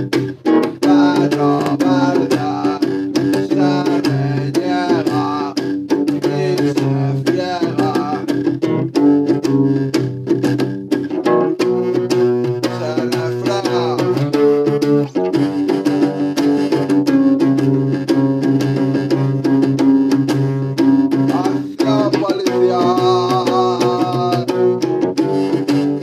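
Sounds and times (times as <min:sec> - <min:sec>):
guitar strummed and plucked: 0:00.0 - 0:26.0.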